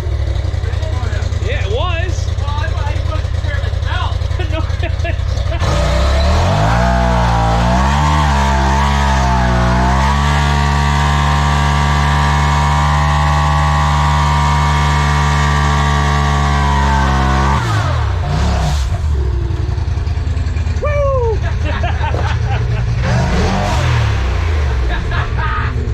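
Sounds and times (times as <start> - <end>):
turbocharged engine revving: 0.0 - 25.9.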